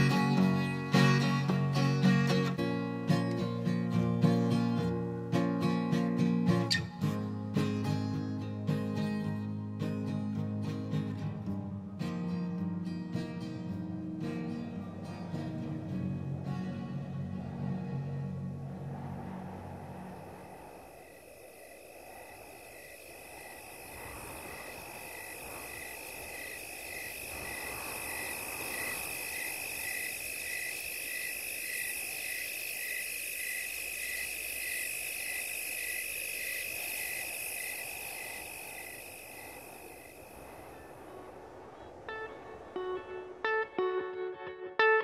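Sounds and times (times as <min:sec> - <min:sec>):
insects trilling: 0:00.0 - 0:07.8, 0:14.2 - 0:43.9
shrill insect hiss: 0:00.0 - 0:09.4, 0:16.4 - 0:43.5
cricket chirping: 0:00.0 - 0:11.3, 0:13.2 - 0:44.2.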